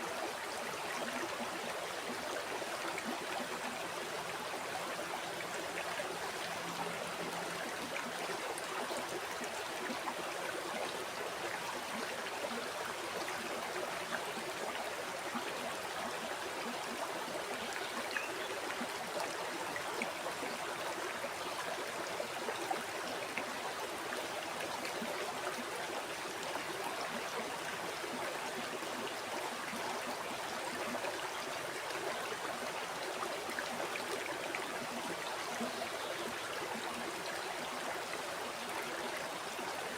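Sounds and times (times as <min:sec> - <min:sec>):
stream water rushing and trickling: 0:00.0 - 0:39.9.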